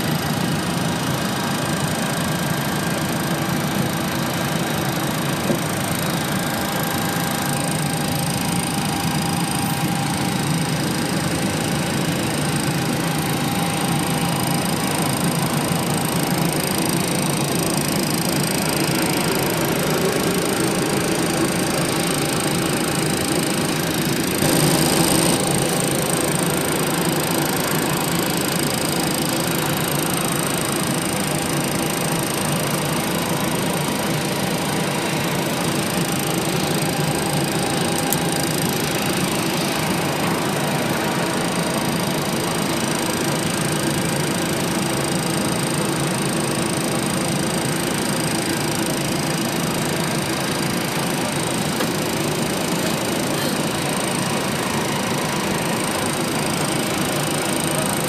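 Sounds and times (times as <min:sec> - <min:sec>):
ventilation hum: 0:00.0 - 0:58.0.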